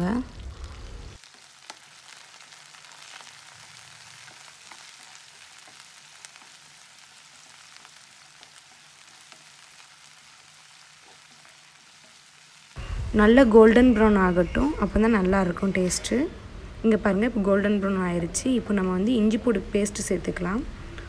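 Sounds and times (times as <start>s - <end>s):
onions sizzling in oil: 0.0s - 20.9s.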